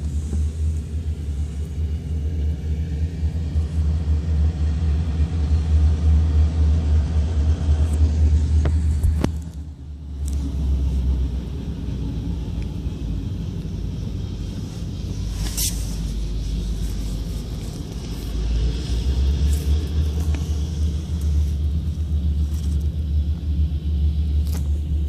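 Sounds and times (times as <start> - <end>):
diesel locomotives rumbling: 0.0 - 25.0.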